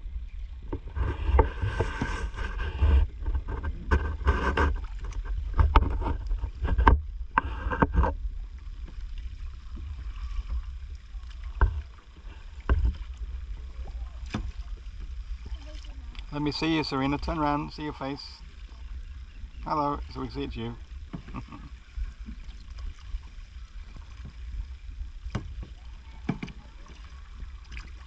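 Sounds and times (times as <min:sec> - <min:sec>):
kayak paddles stroking water: 0:00.0 - 0:28.0
water running off paddle blades: 0:00.2 - 0:28.0.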